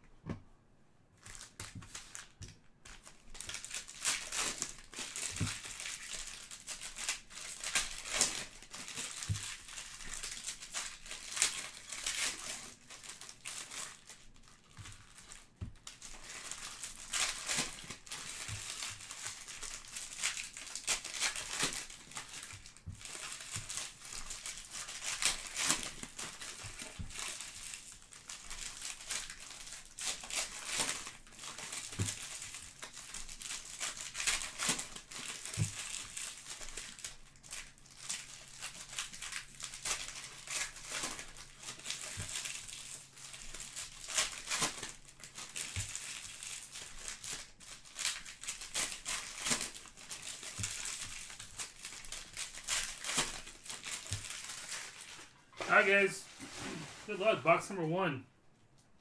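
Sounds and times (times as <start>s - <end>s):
foil wrappers crinkling and tearing: 1.2s - 58.0s.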